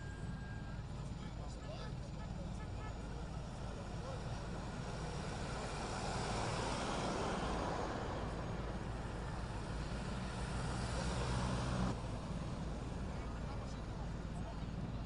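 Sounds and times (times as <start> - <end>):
helicopter rotor and turbine drone: 0.0 - 15.0.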